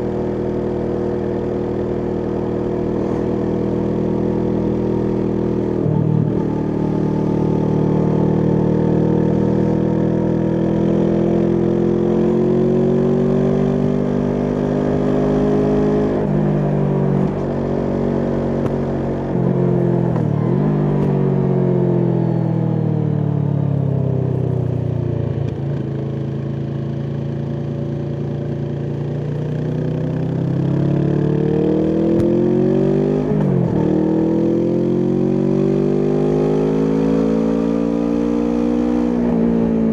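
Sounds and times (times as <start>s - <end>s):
motorcycle engine revving: 0.0s - 23.0s, 23.6s - 39.9s.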